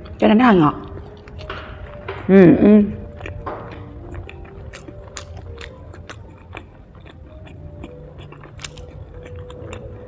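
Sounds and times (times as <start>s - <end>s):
chewing mouth clicks and smacks: 0.8s - 2.0s, 3.1s - 10.0s.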